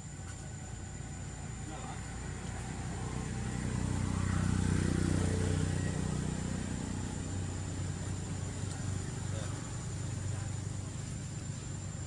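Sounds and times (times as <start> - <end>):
vehicle engine passing by: 2.0 - 12.0.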